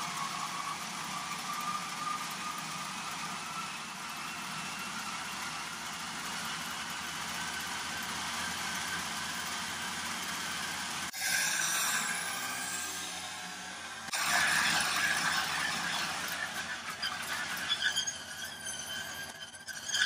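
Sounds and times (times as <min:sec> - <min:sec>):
treadmill motor whirring: 0:00.0 - 0:11.2, 0:12.0 - 0:20.0.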